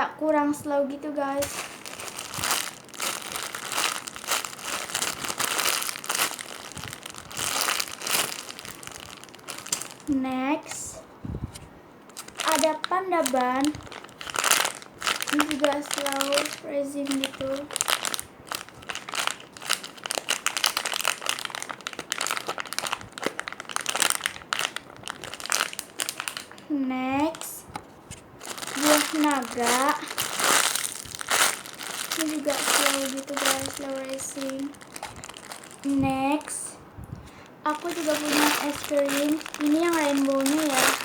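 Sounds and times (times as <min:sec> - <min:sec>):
foam toy crinkling and rustling: 0:00.6 - 0:41.0.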